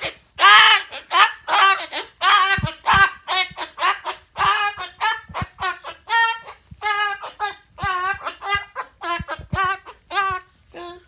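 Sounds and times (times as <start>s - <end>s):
cockatoo calling: 0.0s - 11.0s.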